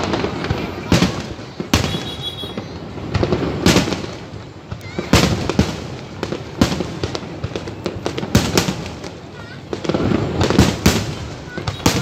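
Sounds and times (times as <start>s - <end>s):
crackle of small firework reports: 0.0s - 12.0s.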